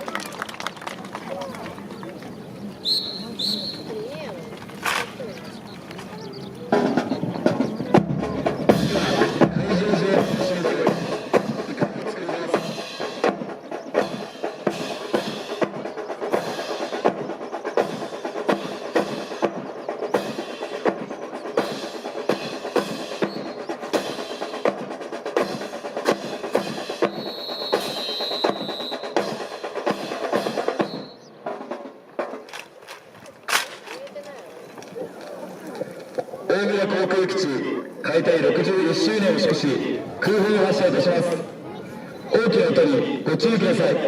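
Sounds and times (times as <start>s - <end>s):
marching snare and bass drums: 0.7s - 41.4s.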